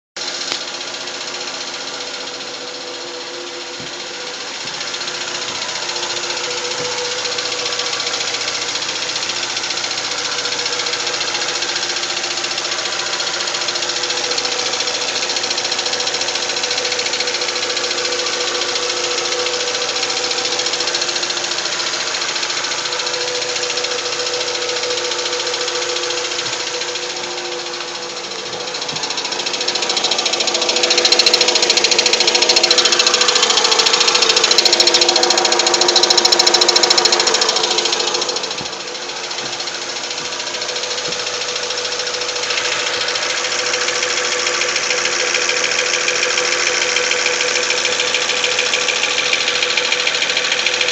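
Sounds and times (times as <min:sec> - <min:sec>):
car engine idling with clatter: 0:00.2 - 0:50.9.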